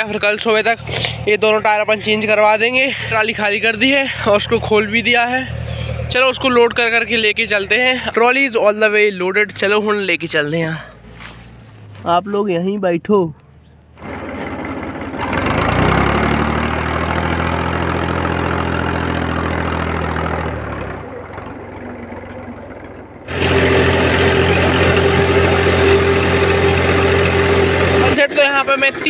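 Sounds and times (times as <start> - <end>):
tractor engine running close: 0.0 - 12.1, 13.5 - 29.0
tractor engine revving: 0.0 - 12.2, 13.5 - 29.0.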